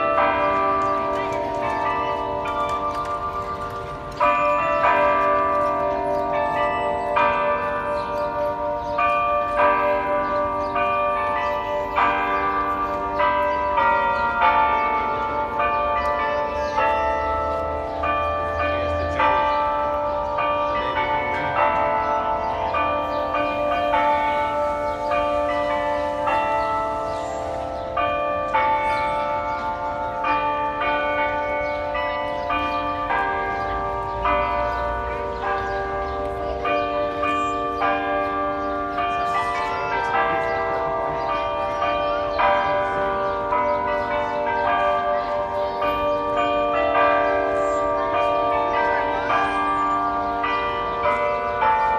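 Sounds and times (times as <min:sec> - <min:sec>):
carillon bells playing melody: 0:00.0 - 0:51.9.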